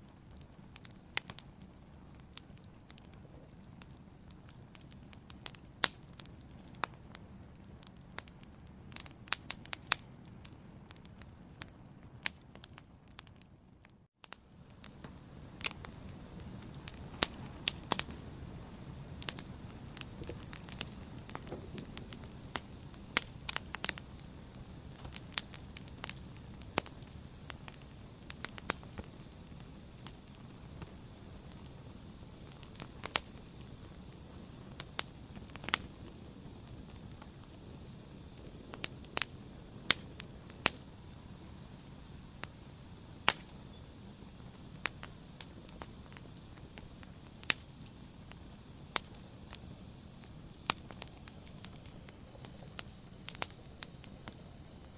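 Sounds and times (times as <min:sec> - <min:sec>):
log fire crackling: 0:00.0 - 0:54.9
low hiss and rumble: 0:00.0 - 0:54.9.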